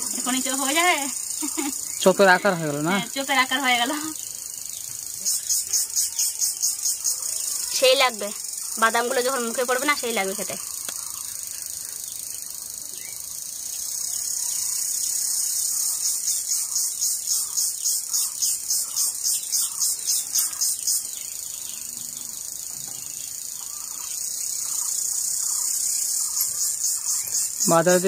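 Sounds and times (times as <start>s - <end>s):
high-pitched insect chorus: 0.0s - 28.0s.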